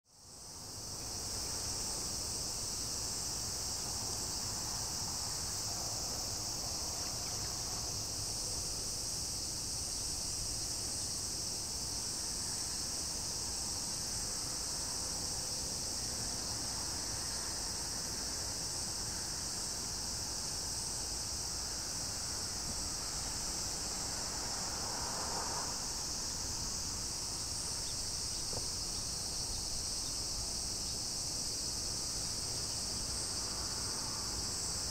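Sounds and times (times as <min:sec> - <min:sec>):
high-pitched insect chorus: 0:00.2 - 0:34.9.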